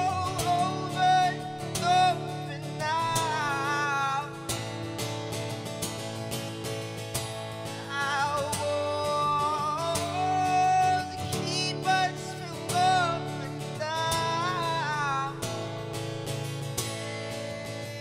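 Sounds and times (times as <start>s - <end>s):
man singing: 0.0s - 5.2s, 7.6s - 18.0s
acoustic guitar strumming: 0.0s - 18.0s.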